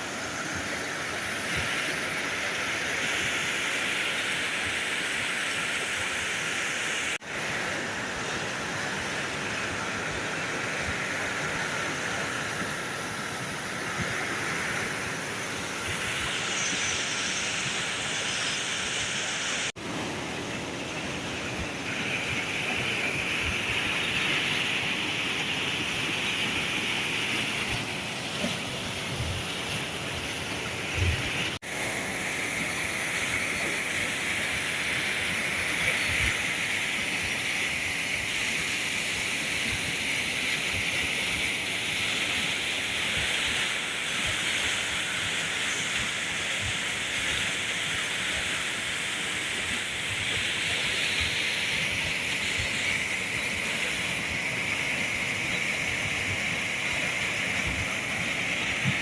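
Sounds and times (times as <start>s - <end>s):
river water rushing over rapids: 0.0s - 59.0s.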